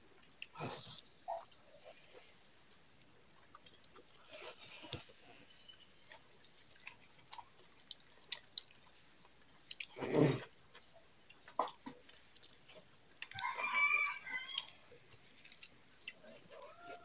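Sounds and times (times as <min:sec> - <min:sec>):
chewing and lip smacks: 0:00.2 - 0:05.4, 0:06.0 - 0:17.0.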